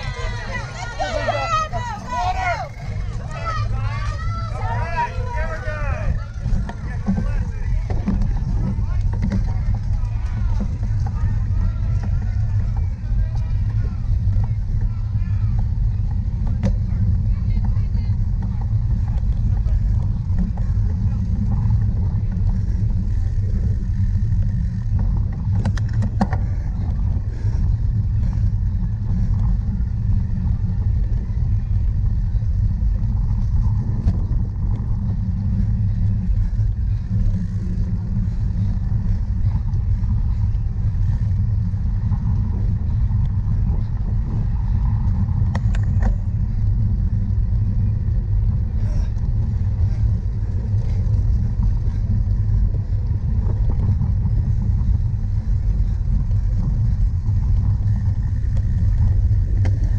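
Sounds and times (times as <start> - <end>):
bike clicks and rattles: 0.0 - 59.9
wind rumbling on microphone: 0.0 - 59.9.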